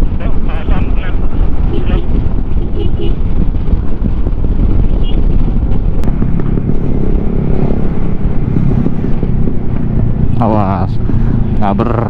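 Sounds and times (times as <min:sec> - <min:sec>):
scooter engine and road noise: 0:00.0 - 0:12.0
wind rumble on microphone: 0:00.0 - 0:12.0.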